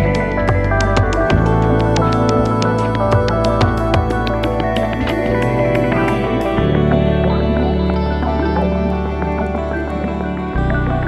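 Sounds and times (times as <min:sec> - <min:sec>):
ambient music with held chords: 0:00.0 - 0:11.0.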